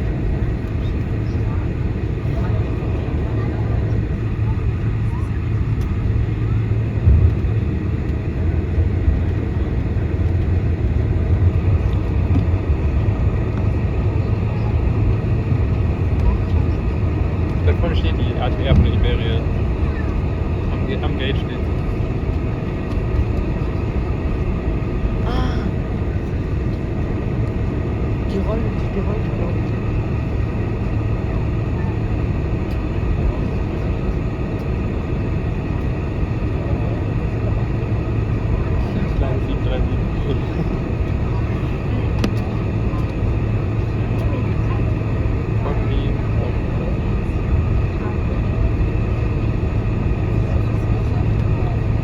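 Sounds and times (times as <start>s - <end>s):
aircraft engines taxiing: 0.0s - 52.0s
cabin air system hum: 0.0s - 52.0s.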